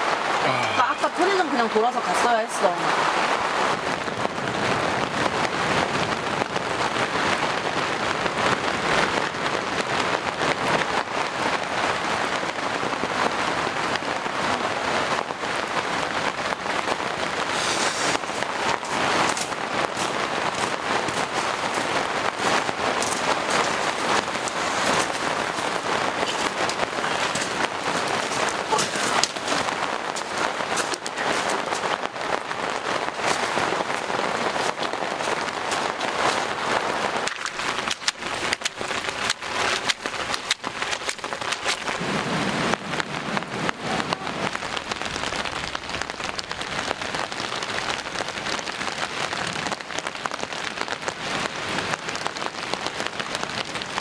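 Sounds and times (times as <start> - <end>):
heavy rain: 0.0 - 54.0
sharp raindrop hits: 0.0 - 54.0.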